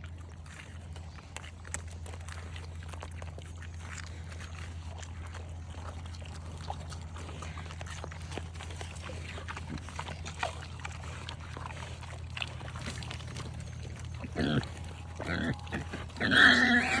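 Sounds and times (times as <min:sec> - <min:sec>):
pig grunts: 0:00.0 - 0:17.0
pigs crunching and chewing: 0:00.0 - 0:17.0
steady low hum: 0:00.0 - 0:17.0.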